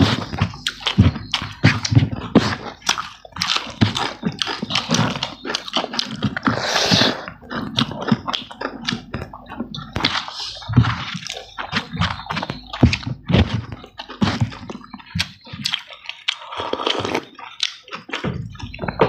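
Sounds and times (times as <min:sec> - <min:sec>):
chewing and lip smacks: 0:00.0 - 0:19.0
squelching food mixed by hand: 0:00.0 - 0:19.0.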